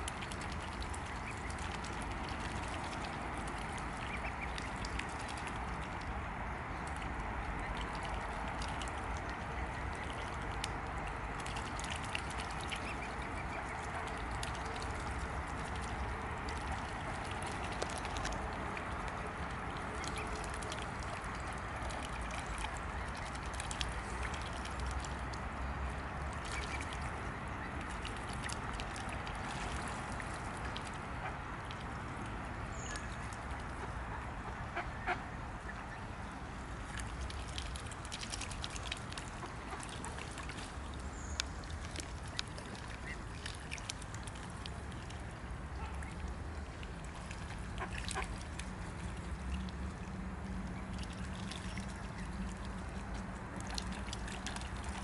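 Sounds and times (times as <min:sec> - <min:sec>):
small clicks and splashes: 0:00.0 - 0:55.0
swans dabbling in water: 0:00.0 - 0:55.0.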